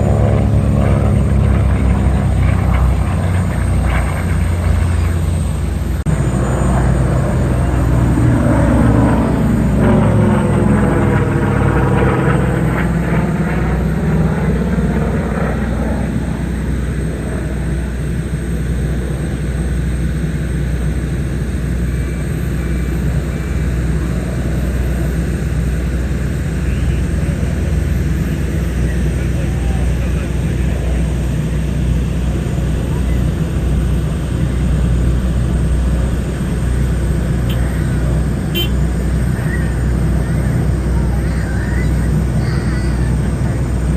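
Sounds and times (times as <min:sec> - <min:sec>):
piston aircraft engine flying past: 0:00.0 - 0:43.9.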